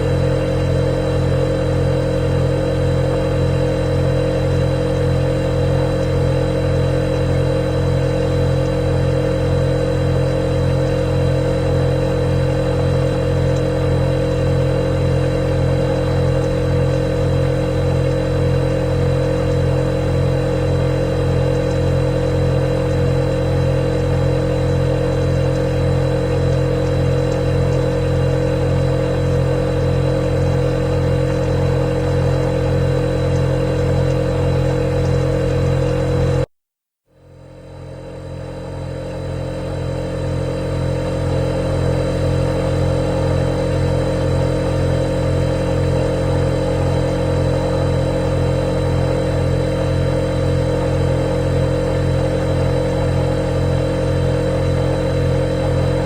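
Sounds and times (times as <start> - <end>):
refrigerator humming: 0.0 - 36.5, 37.2 - 56.0.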